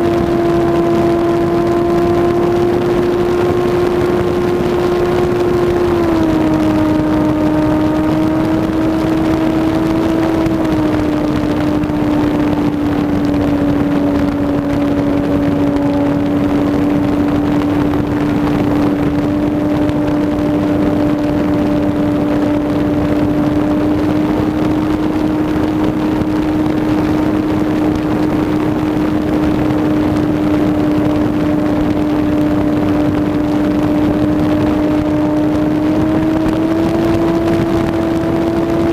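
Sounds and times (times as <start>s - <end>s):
wind rushing: 0.0s - 38.9s.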